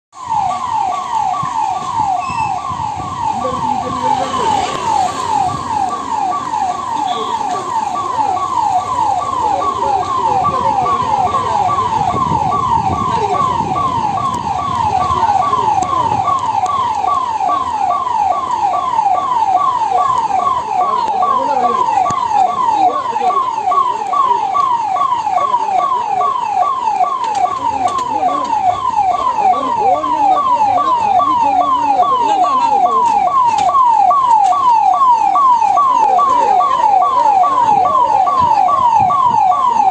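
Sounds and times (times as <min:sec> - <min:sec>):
emergency vehicle siren: 0:00.1 - 0:39.9
low road rumble: 0:00.1 - 0:39.9.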